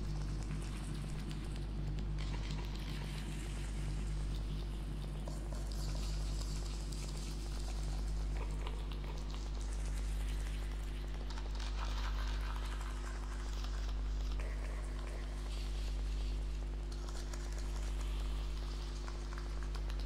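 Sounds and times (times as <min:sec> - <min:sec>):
faint crackling patter: 0:00.0 - 0:20.0.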